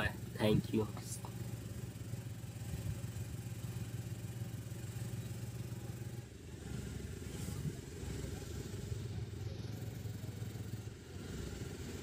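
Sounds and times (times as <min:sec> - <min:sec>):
auto rickshaw engine rumbling: 0:00.0 - 0:12.0.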